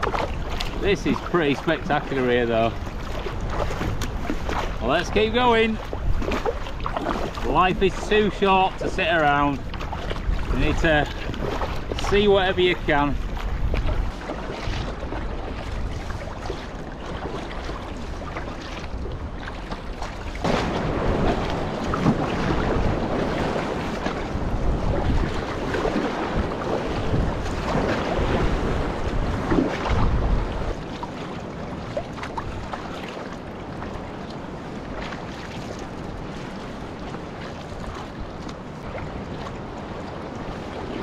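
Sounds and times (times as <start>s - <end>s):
water splashing around kayak: 0.0s - 41.0s
wind on microphone: 0.0s - 41.0s.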